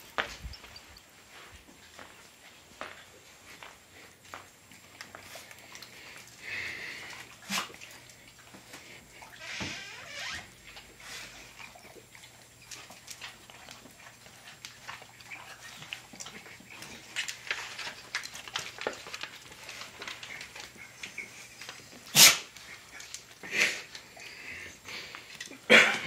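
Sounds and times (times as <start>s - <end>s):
dogs licking lips: 0.2s - 9.5s, 10.5s - 25.7s.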